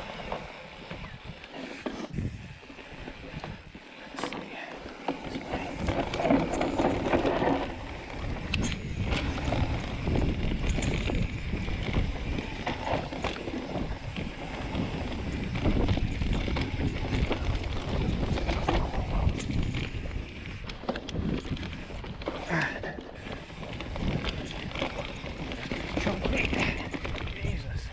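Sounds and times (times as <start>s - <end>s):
bike tyres rolling over dirt: 0.0s - 27.9s
wind rushing over microphone: 2.1s - 3.8s, 5.2s - 22.3s, 23.2s - 27.9s
bike knocks and rattles: 3.4s - 27.5s.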